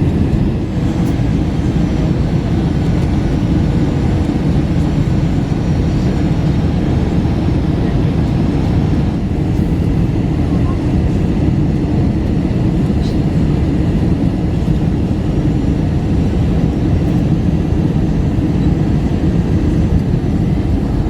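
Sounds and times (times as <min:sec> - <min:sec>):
jet engine rumble in cabin: 0:00.0 - 0:21.0.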